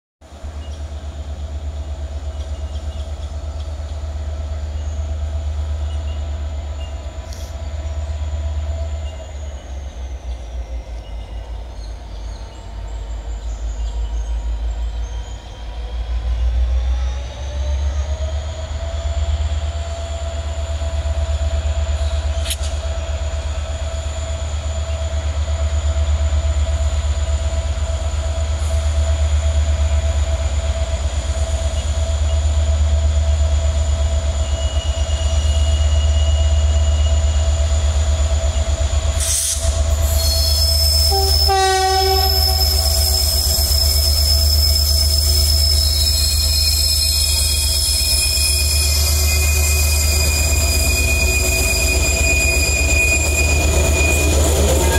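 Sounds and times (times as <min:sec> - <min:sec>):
locomotive engine rumble: 0:00.3 - 0:54.9
steady engine whine: 0:00.4 - 0:40.5, 0:41.7 - 0:54.9.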